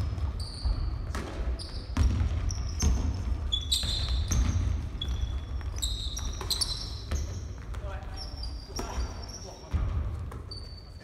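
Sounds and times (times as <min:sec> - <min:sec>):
basketball bouncing on wooden floor: 0:00.0 - 0:10.6
shoes squeaking on court: 0:00.0 - 0:11.0.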